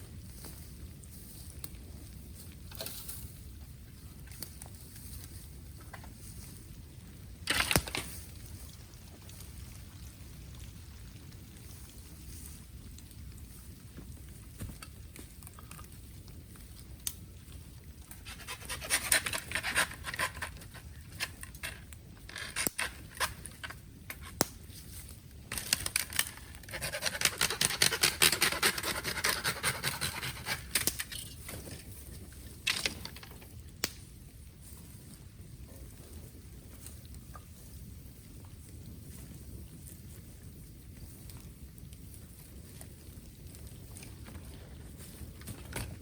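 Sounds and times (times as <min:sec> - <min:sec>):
bonfire crackling and popping: 0:00.0 - 0:46.0.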